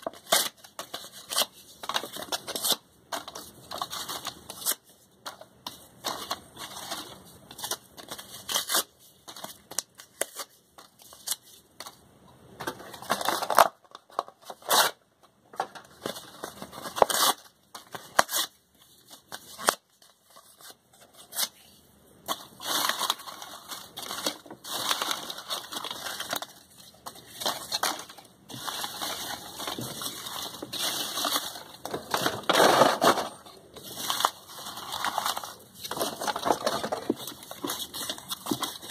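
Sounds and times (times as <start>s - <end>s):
cardboard tearing and crumpling: 0.0s - 4.9s, 6.0s - 11.6s, 16.0s - 21.6s, 22.3s - 38.9s.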